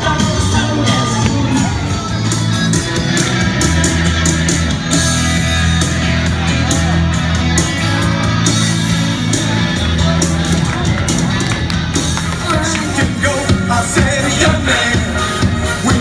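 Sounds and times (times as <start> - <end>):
loud music with steady beat: 0.0 - 16.0.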